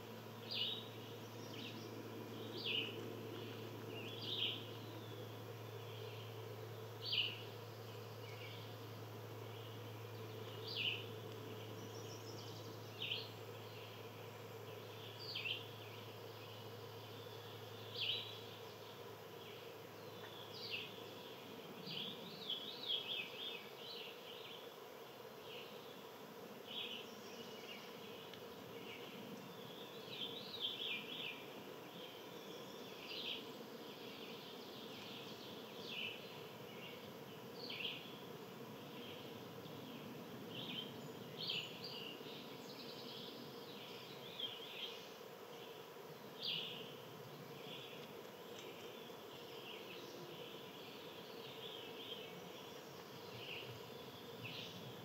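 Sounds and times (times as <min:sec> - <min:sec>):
low background hum: 0:00.0 - 0:55.0
small birds chirping: 0:00.3 - 0:55.0.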